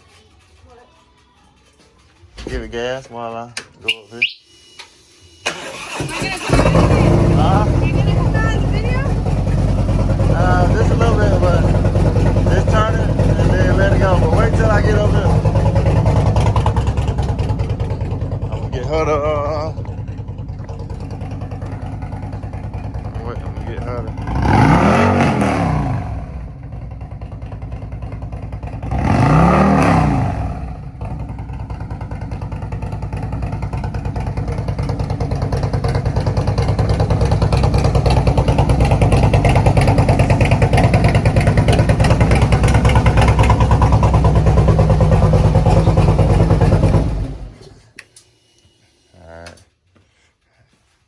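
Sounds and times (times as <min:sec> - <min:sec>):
motorcycle engine idling: 0:05.6 - 0:47.9.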